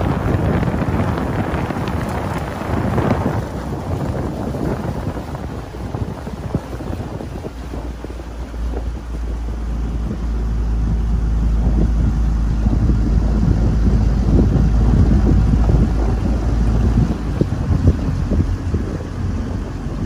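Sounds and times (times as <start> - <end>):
water slapping against hull: 0.0 - 20.0
wind rushing over microphone: 0.0 - 20.0.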